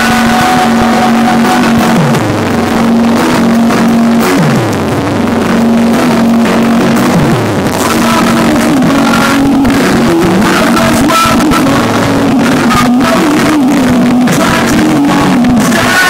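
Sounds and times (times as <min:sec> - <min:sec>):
bass synth swooping down: 0:00.0 - 0:15.9
distorted electronic rock: 0:00.0 - 0:16.0.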